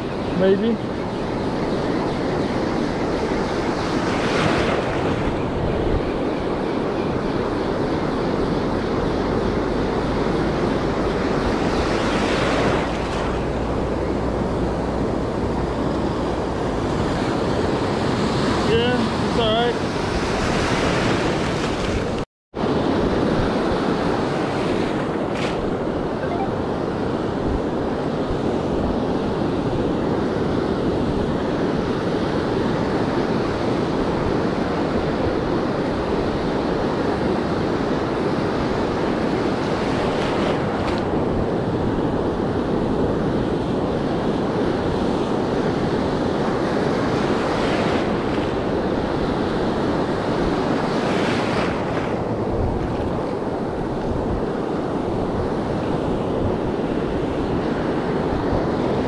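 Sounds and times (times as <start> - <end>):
ocean surf breaking on beach: 0.0 - 59.0
wind on microphone: 0.0 - 59.0.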